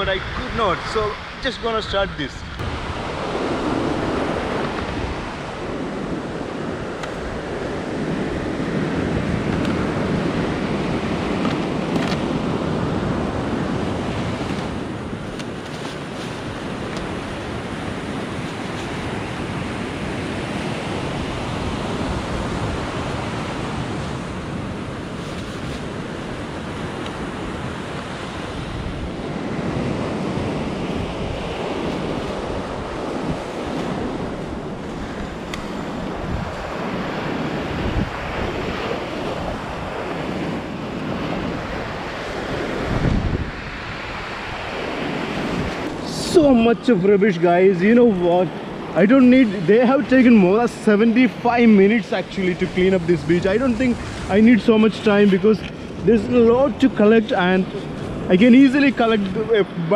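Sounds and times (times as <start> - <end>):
ocean surf on beach: 0.0 - 59.9
wind noise on microphone: 0.0 - 59.9.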